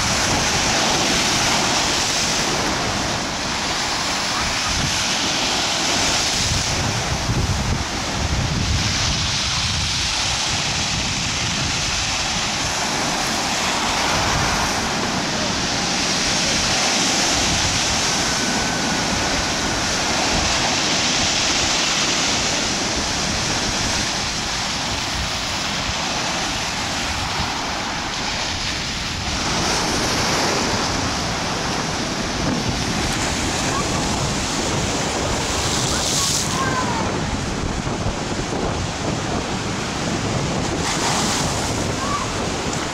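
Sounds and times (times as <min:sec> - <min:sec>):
surf breaking on shore: 0:00.0 - 0:42.9
wind buffeting microphone: 0:00.0 - 0:42.9.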